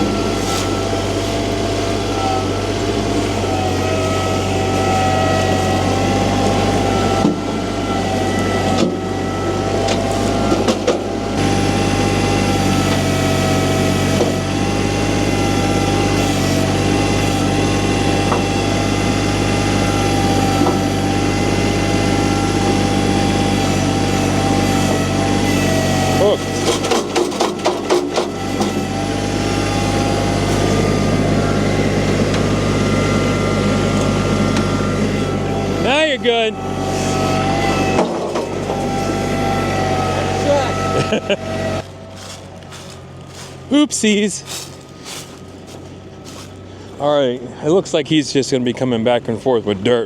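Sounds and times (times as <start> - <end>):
steady whine: 0.0 - 49.7
tractor diesel engine running: 0.0 - 50.0.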